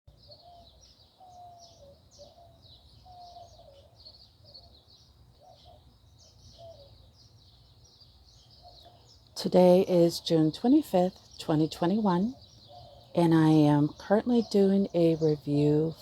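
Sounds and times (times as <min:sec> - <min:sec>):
lower whistled bird notes: 0:00.1 - 0:16.0.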